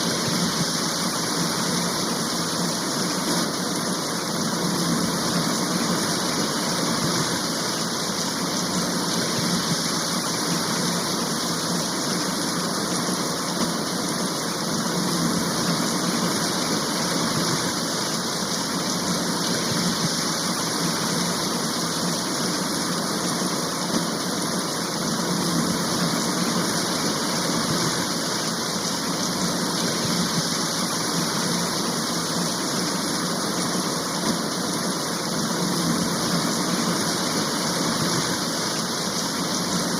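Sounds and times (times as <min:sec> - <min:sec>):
steady rain downpour: 0:00.0 - 0:39.9.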